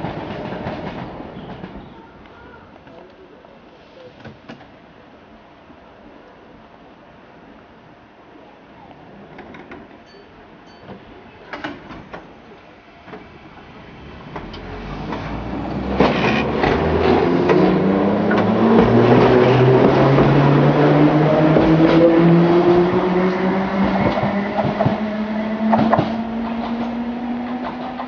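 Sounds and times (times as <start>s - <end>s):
train wheel and rail noise: 0.0s - 28.0s.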